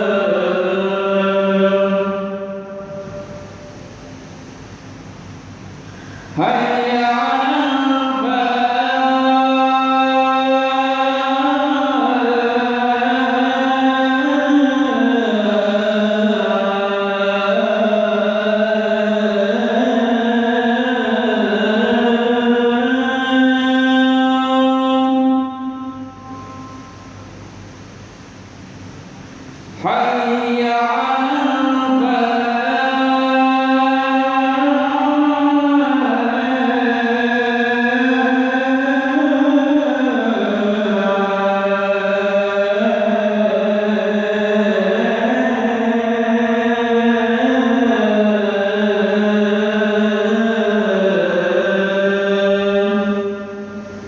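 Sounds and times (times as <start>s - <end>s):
man chanting call to prayer: 0.0s - 3.6s, 6.4s - 26.8s, 29.8s - 53.9s.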